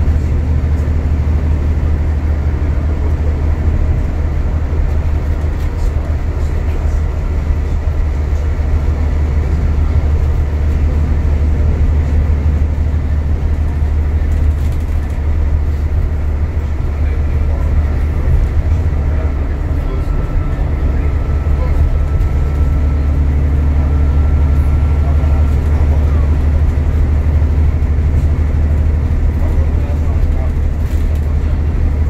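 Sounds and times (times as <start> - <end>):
bus engine drone: 0.0 - 32.0
tyre and road noise: 0.0 - 32.0.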